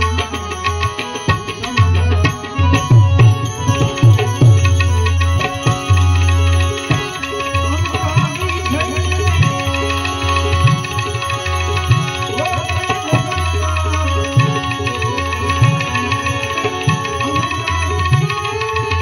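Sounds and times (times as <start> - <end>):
harmonium holding notes: 0.0 - 19.0
keyed banjo: 0.0 - 19.0
man singing: 0.0 - 19.0.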